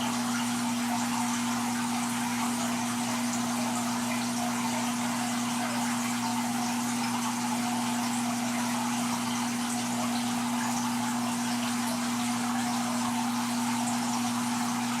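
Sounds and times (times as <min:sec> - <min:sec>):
aquarium water circulating and splashing: 0:00.0 - 0:15.0
electrical hum of aquarium pump: 0:00.0 - 0:15.0.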